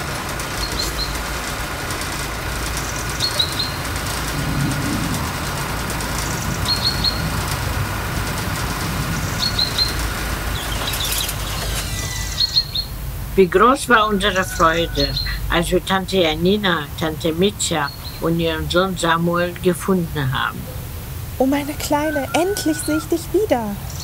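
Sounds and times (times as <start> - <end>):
car driving rumble: 0.0 - 24.0
bird chirping: 0.5 - 1.3, 2.6 - 24.0.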